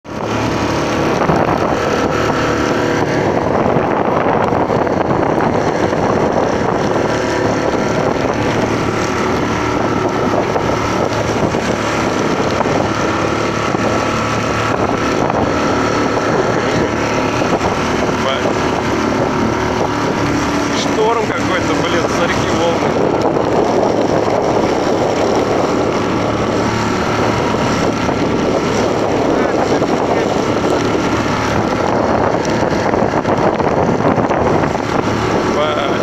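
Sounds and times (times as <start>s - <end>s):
motorboat engine running: 0.0s - 36.0s
wind noise on microphone: 0.0s - 36.0s.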